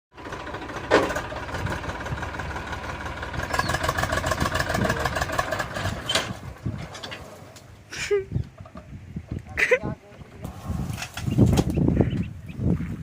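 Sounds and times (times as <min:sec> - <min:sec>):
tractor diesel engine running: 0:00.1 - 0:09.4, 0:10.2 - 0:12.9.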